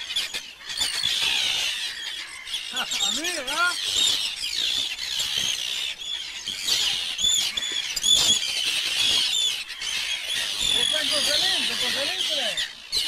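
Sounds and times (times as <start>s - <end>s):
seabirds calling: 0.0s - 13.0s.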